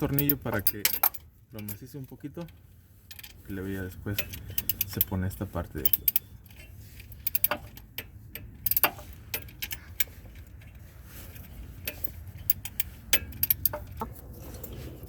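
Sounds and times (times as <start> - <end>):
metallic clicks of hand tools: 0.0 - 3.4, 4.1 - 5.2, 5.8 - 10.8, 11.4 - 14.8.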